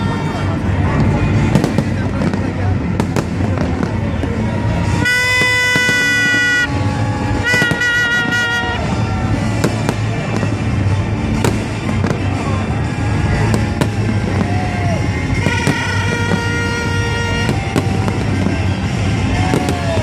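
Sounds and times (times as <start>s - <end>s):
fireworks bangs and crackles: 0.0s - 20.0s
steady low din: 0.0s - 20.0s.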